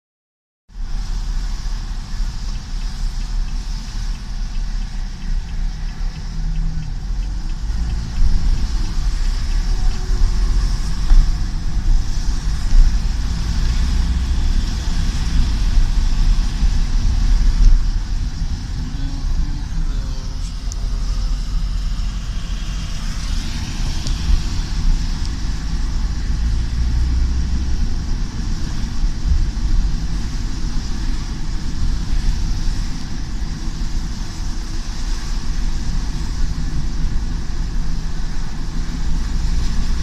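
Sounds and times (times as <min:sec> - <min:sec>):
storm wind buffeting microphone: 0:01.8 - 0:40.0.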